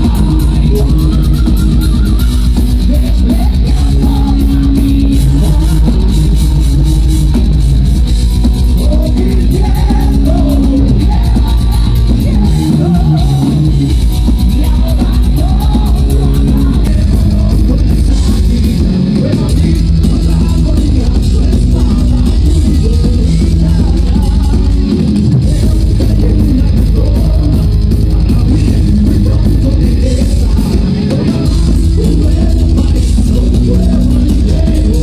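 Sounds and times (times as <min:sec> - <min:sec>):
drum kit: 0:00.0 - 0:35.0
heavy metal band playing: 0:00.0 - 0:35.0
lead vocal singing: 0:00.0 - 0:35.0.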